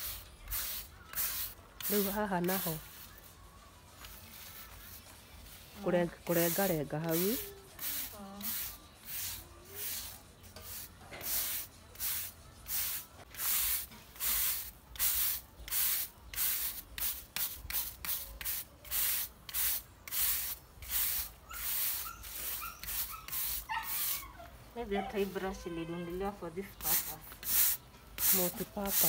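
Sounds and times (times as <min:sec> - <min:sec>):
brush scratching over surface: 0:00.0 - 0:03.3, 0:04.0 - 0:24.3, 0:26.7 - 0:29.0.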